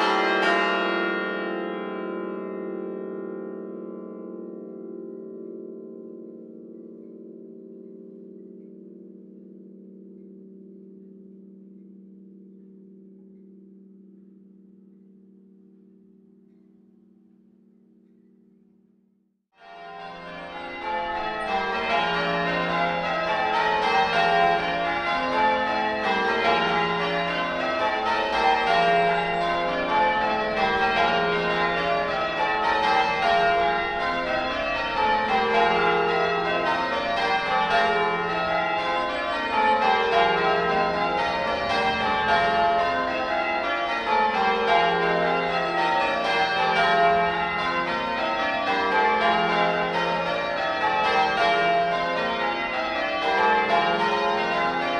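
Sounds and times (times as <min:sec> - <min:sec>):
church bells change ringing: 0:00.0 - 0:14.7, 0:19.6 - 0:54.9.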